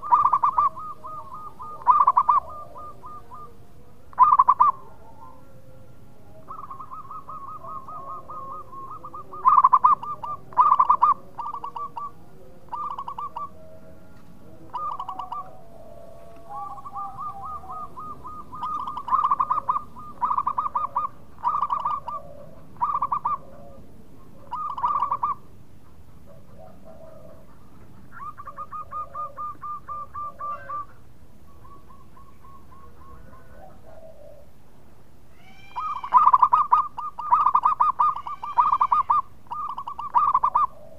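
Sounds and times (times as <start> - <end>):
faint dove coos: 0.0 - 34.6, 35.3 - 40.9
dove trilled cooing: 0.0 - 34.7, 35.4 - 40.9.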